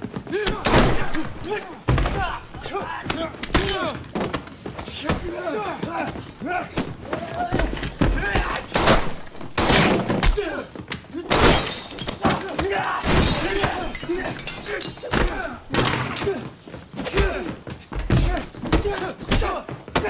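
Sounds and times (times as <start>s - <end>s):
punches and body impacts: 0.0s - 16.4s, 17.0s - 20.0s.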